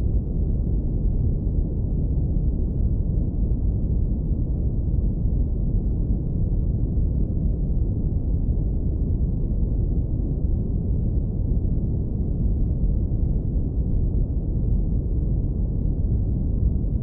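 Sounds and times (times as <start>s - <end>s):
deep low rumble: 0.0s - 17.0s.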